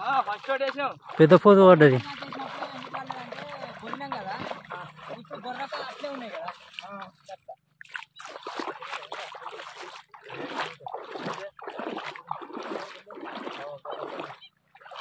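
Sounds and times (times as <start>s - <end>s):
bare feet splashing in water: 0.0s - 15.0s
water dripping off a net: 0.0s - 15.0s.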